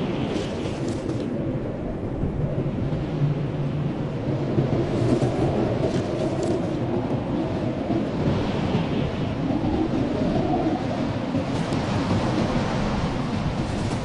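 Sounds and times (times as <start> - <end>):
blizzard wind rumbling: 0.0 - 14.0
low howling wind: 0.0 - 14.0.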